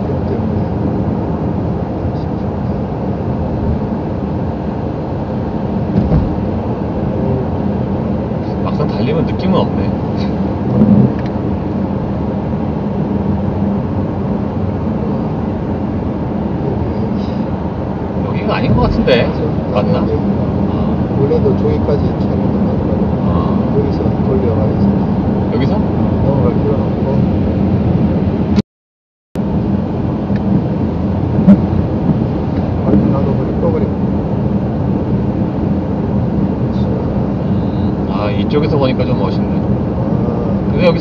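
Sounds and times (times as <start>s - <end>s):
car engine hum: 0.0s - 28.6s, 29.4s - 41.0s.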